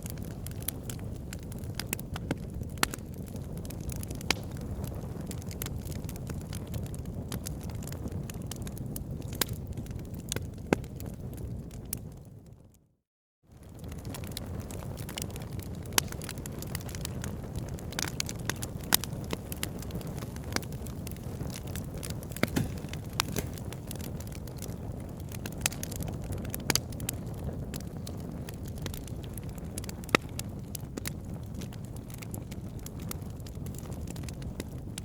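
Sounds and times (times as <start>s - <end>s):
campfire crackling and popping: 0.0s - 12.5s, 13.5s - 35.0s.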